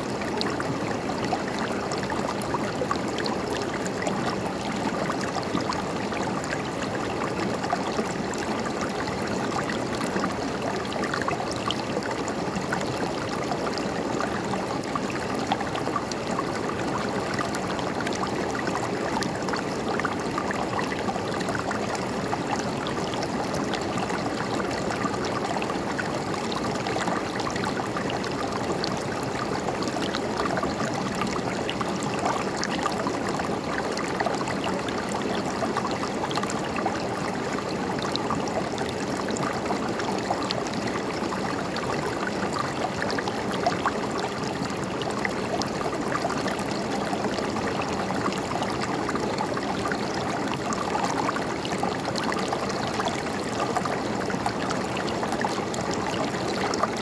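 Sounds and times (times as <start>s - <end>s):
river water gurgling over rocks: 0.0s - 57.0s.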